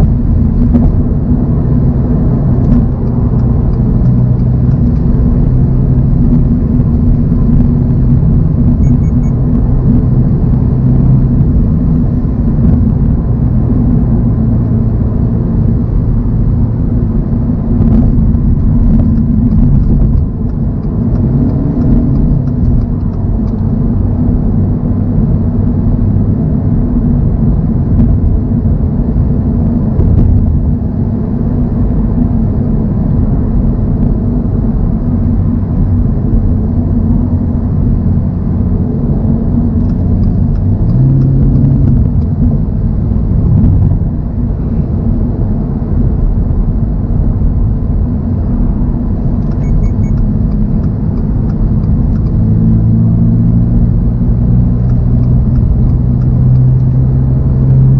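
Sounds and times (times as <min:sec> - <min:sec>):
car engine cruising: 0:00.0 - 0:57.9
tyre and road noise: 0:00.0 - 0:57.9.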